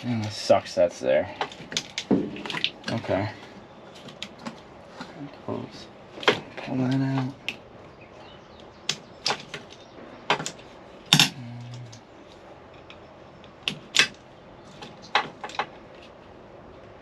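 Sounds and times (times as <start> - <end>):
low hum: 1.8 - 17.0.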